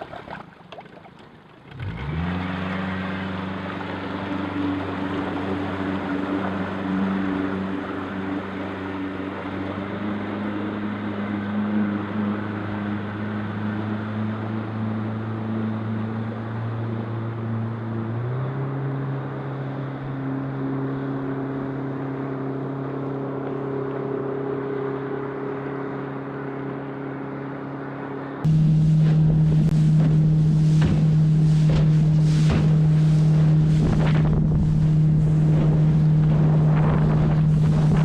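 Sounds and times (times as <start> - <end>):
jet boat engine running: 0.0 - 38.0
water noise: 0.0 - 38.0
wind: 0.0 - 38.0.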